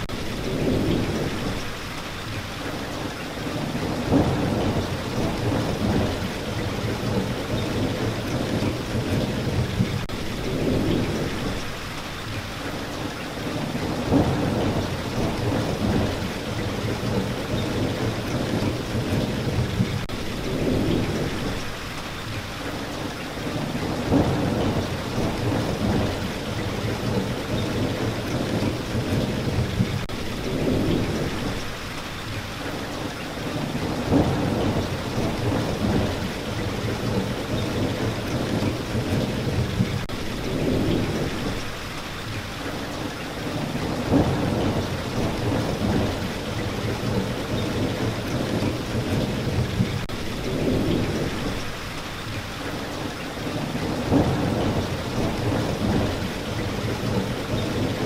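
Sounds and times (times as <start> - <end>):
thunder rumbling: 0.0 - 1.8, 3.5 - 11.8, 13.5 - 21.8, 23.5 - 31.8, 33.5 - 41.8, 43.4 - 51.9, 53.4 - 58.0
rain falling: 0.0 - 58.0.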